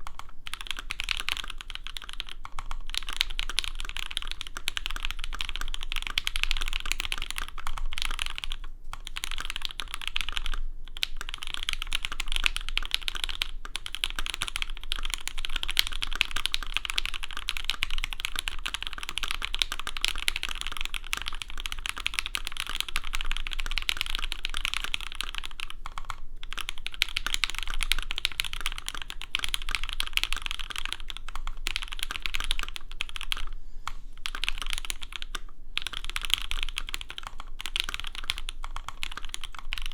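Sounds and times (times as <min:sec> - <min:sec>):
mechanical keyboard typing: 0:00.0 - 0:33.6, 0:34.2 - 0:39.9.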